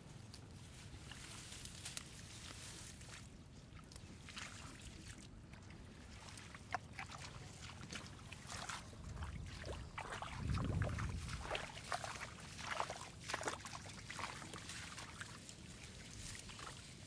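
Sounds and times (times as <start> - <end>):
shallow water sloshing: 2.9 - 17.0.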